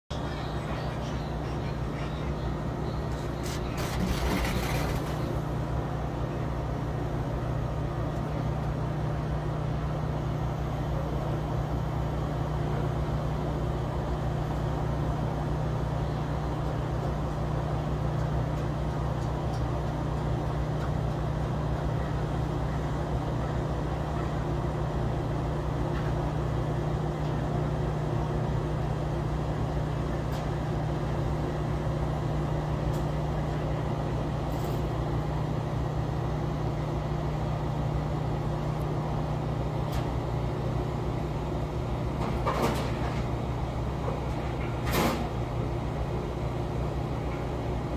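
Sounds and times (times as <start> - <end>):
air-conditioning units humming: 0.1 - 47.9.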